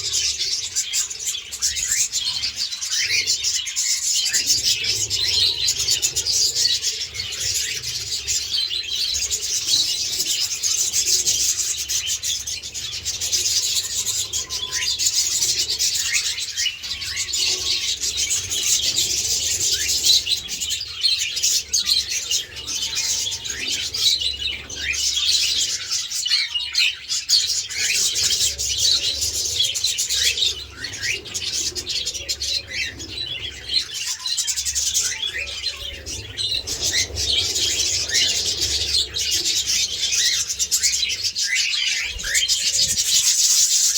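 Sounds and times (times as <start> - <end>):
parrots chattering and chirping: 0.0 - 43.9.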